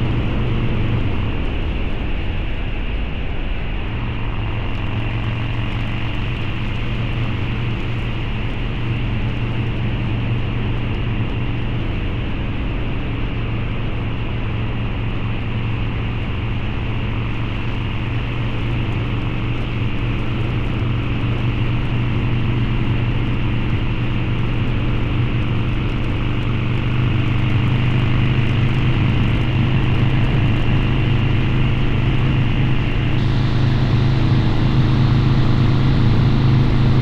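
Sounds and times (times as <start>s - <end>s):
motorcycle engine cruising: 4.0s - 37.0s.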